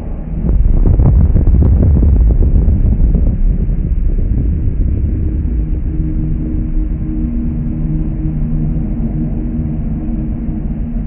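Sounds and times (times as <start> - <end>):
slowed explosion with deep rumble: 0.0 - 10.1.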